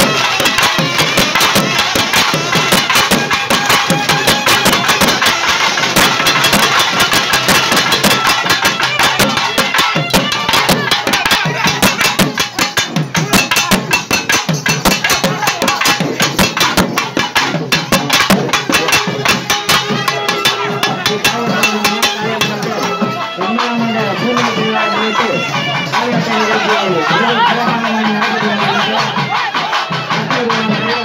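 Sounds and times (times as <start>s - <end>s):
crowd voices: 0.0s - 31.0s
drums beaten rapidly: 0.0s - 31.0s.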